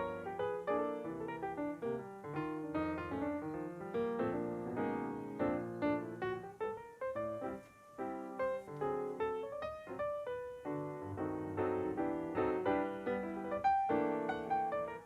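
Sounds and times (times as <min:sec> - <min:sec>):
lively piano music: 0:00.0 - 0:15.0.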